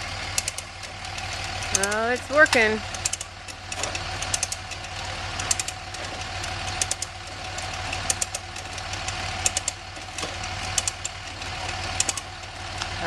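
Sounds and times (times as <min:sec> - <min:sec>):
hand winch ratchet clicking: 0:00.3 - 0:13.0.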